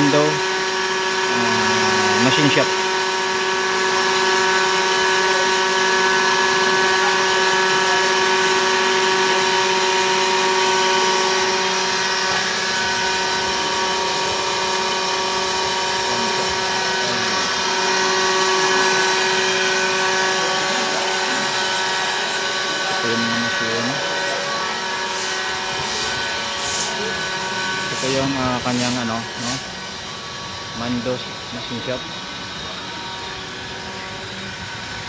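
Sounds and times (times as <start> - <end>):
grinding wheel on metal: 0.0 - 35.0.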